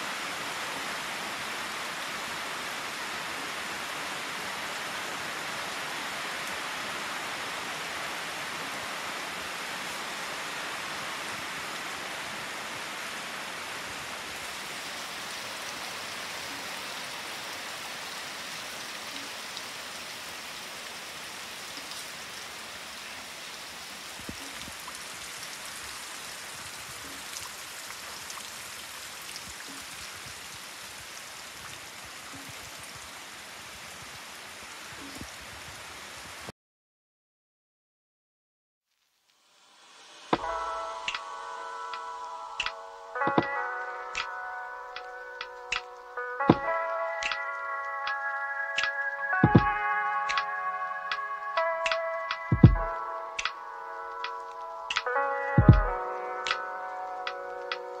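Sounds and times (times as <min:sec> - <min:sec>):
steady rain hiss: 0:00.0 - 0:36.5, 0:38.9 - 0:58.0.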